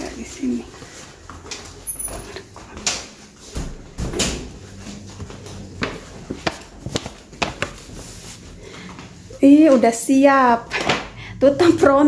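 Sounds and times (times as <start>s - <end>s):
footsteps: 0.0s - 10.1s.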